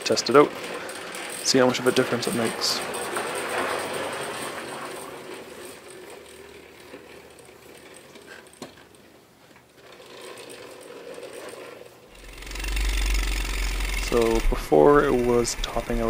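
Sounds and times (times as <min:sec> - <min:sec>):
mini bike engine running: 0:00.0 - 0:09.1, 0:09.7 - 0:16.0.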